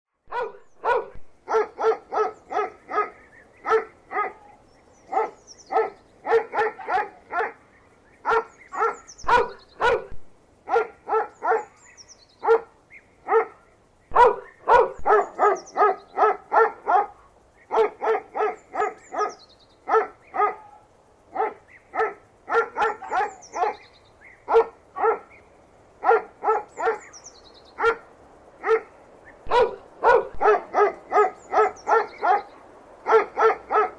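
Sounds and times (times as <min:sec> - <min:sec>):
dog barking: 0:00.3 - 0:07.6, 0:08.2 - 0:11.8, 0:12.4 - 0:23.8, 0:24.5 - 0:25.4, 0:26.0 - 0:27.2, 0:27.8 - 0:33.9.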